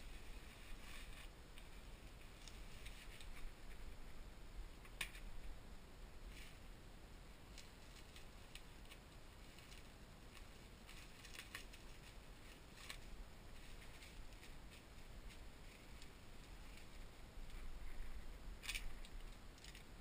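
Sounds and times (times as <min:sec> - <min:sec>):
bubble wrap rustling: 0:00.0 - 0:04.2, 0:07.4 - 0:20.0.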